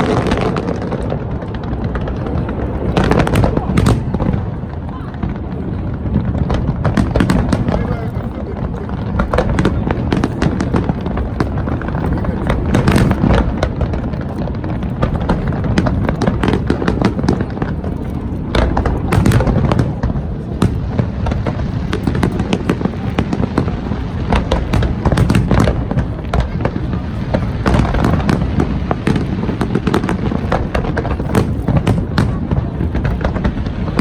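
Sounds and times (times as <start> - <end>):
fireworks cracking and popping: 0.0 - 34.0
low booming: 0.0 - 34.0.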